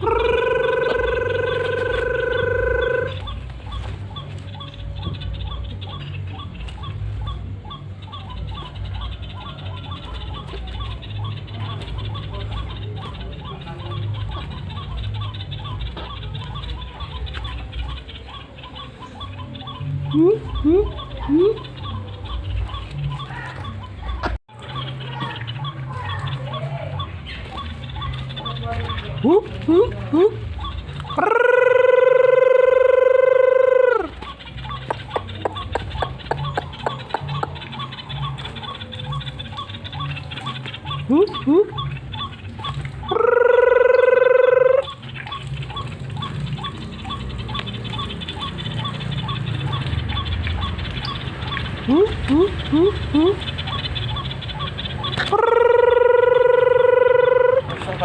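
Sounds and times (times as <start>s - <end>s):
bird call notes: 0.0s - 58.0s.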